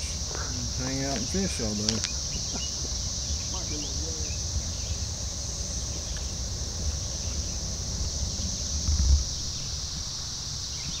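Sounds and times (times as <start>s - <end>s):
insect chorus: 0.0s - 11.0s
wind rumbling on microphone: 0.0s - 11.0s.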